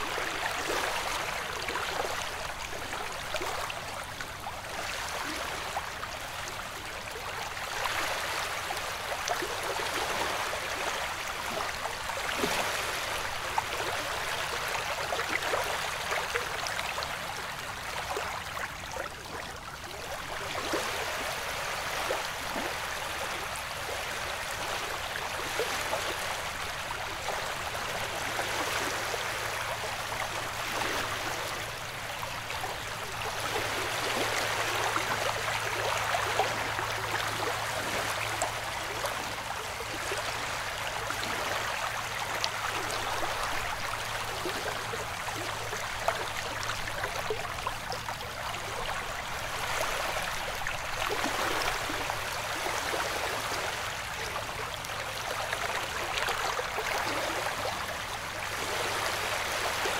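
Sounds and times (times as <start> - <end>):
small waves lapping on beach: 0.0 - 59.9.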